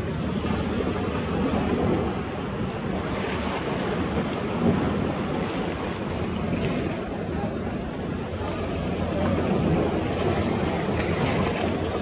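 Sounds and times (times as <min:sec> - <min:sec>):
small sea waves washing: 0:00.0 - 0:12.0.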